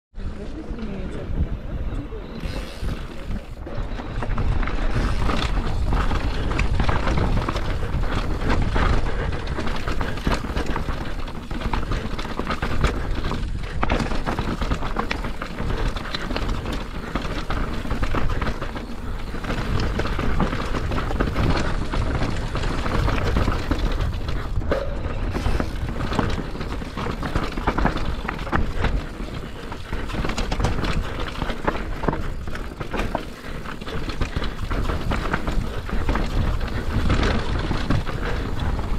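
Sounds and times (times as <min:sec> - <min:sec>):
wind buffeting microphone: 0:00.2 - 0:38.9
bike rattling and knocking: 0:02.4 - 0:38.9
tyres rolling over dirt: 0:02.4 - 0:38.9.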